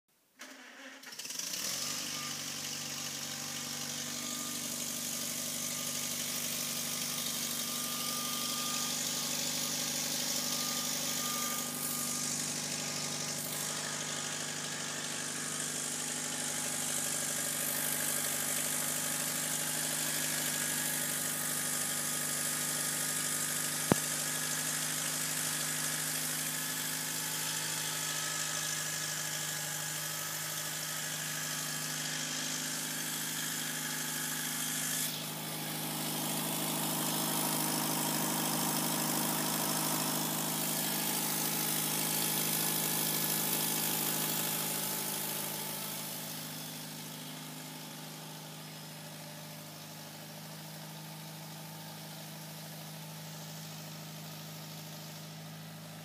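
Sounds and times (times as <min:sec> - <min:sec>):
tractor engine idling: 0:00.4 - 0:56.0.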